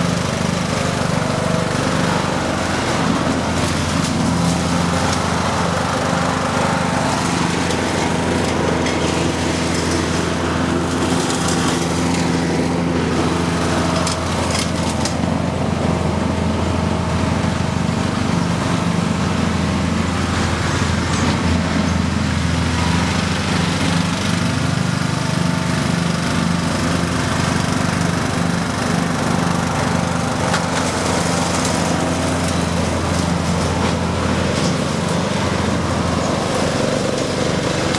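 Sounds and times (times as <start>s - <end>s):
lawn tractor engine mowing: 0.0s - 37.9s.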